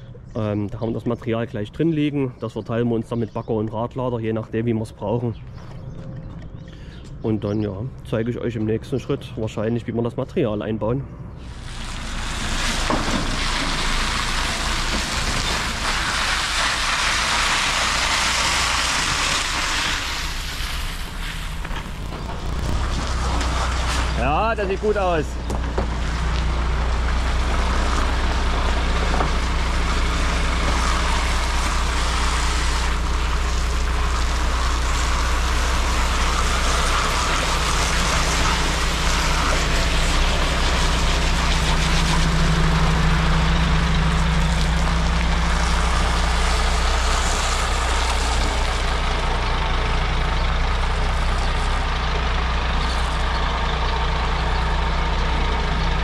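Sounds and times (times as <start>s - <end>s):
heavy diesel engine droning: 4.0s - 56.0s.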